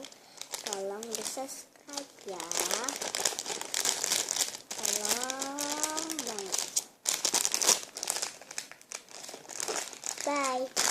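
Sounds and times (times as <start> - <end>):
plastic crinkling and rustling: 0.0 - 10.9.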